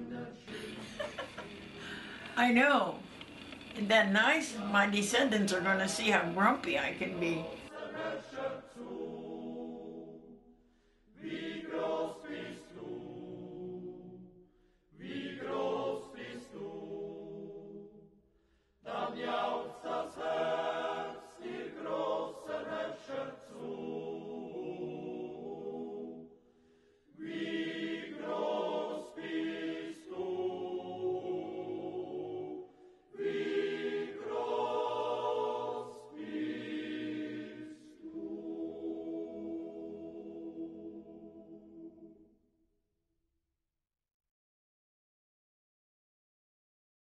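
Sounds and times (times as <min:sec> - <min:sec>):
choir singing a hymn: 0:00.0 - 0:02.3, 0:03.8 - 0:18.2, 0:18.8 - 0:42.3.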